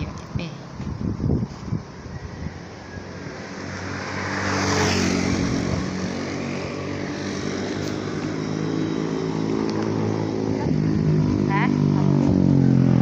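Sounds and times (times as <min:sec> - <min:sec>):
steady engine hum: 0:00.0 - 0:13.0
vehicle driving past: 0:02.0 - 0:13.0.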